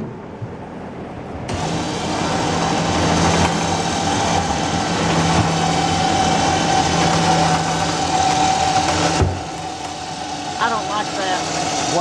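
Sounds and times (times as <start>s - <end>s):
electric winch humming and whining: 1.4s - 12.0s.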